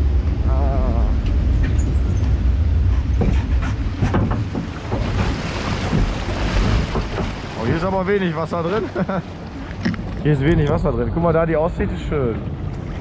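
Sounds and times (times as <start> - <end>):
low wind rumble on microphone: 0.0 - 13.0
water rushing and splashing: 0.0 - 13.0.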